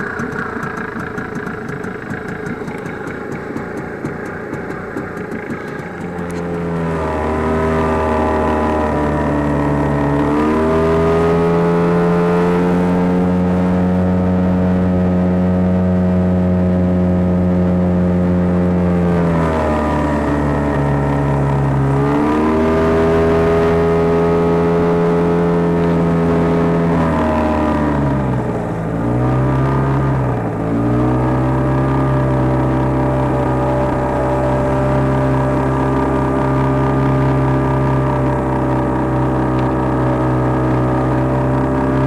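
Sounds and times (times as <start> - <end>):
boat motor running: 0.0 - 42.0.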